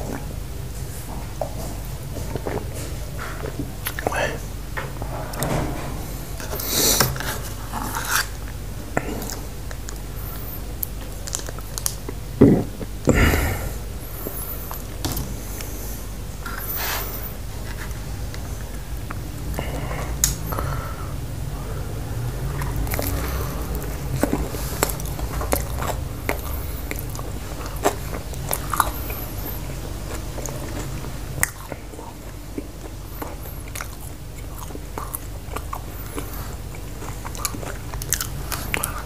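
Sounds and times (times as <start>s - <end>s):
low steady hum: 0.0s - 39.0s
person chewing: 2.2s - 4.2s, 6.4s - 21.1s, 22.2s - 39.0s.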